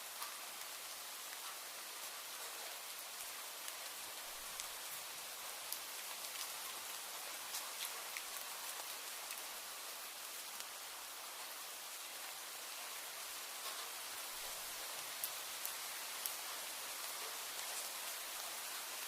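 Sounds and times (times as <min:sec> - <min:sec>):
raindrops dripping close by: 0:00.0 - 0:19.0
steady rain hiss: 0:00.0 - 0:19.0.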